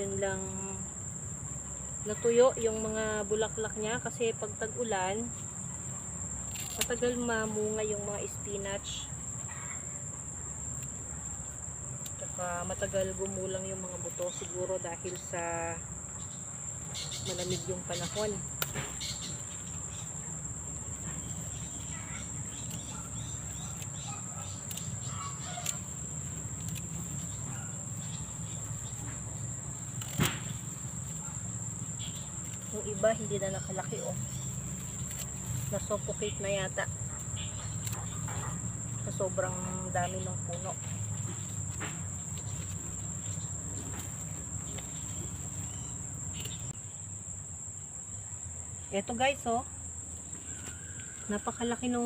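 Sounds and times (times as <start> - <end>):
crickets droning: 0.0 - 52.0
faint short insect calls: 0.0 - 52.0
rustling foliage: 0.0 - 52.0.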